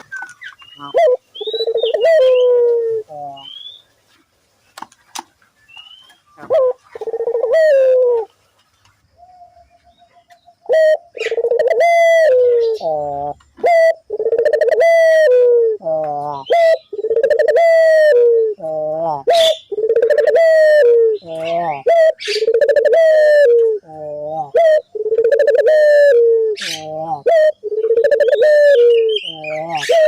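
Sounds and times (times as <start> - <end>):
dove cooing: 0.0 - 3.6, 6.4 - 8.4, 10.6 - 30.0.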